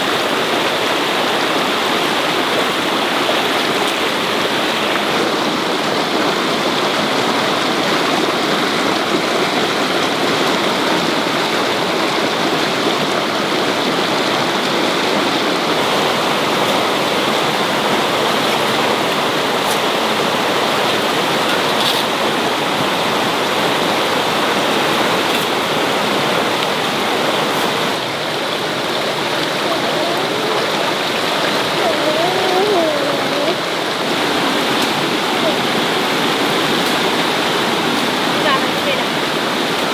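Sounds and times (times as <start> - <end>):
loud rush of water: 0.0 - 39.9.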